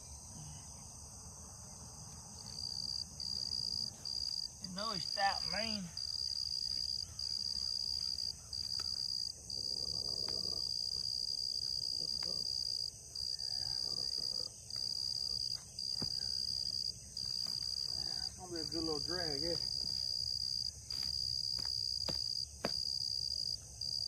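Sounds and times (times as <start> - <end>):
insect chorus buzzing trill: 0.0 - 24.0.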